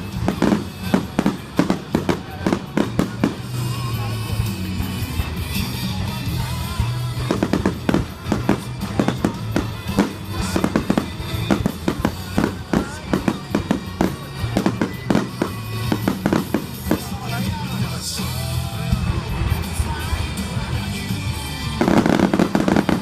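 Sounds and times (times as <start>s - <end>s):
background music: 0.0s - 23.0s
fireworks bangs and crackles: 0.0s - 23.0s.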